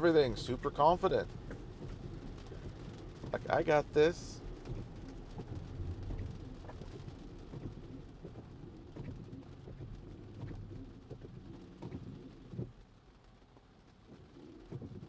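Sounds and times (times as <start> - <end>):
light taps of rain: 0.0 - 15.0.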